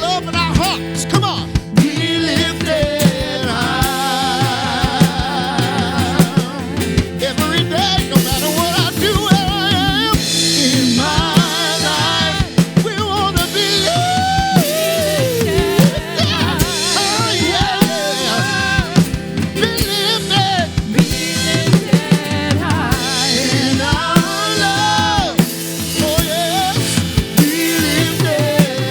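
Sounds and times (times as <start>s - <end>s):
person singing: 0.0s - 28.9s
worship band playing: 0.0s - 28.9s.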